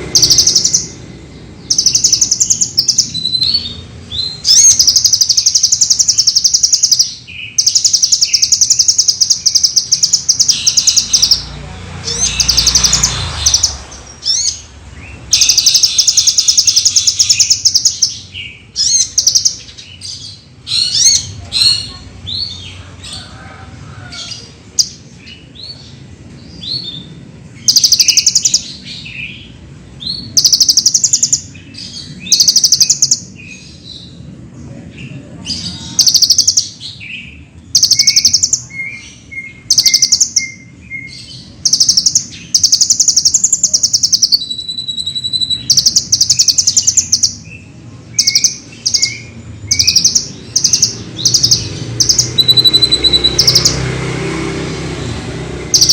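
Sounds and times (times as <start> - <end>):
bird singing rattling trills: 0.0 - 23.3, 24.2 - 34.3, 35.5 - 55.9
sharp bird chirps: 0.0 - 23.3, 26.5 - 34.2, 35.6 - 54.0, 55.0 - 55.9.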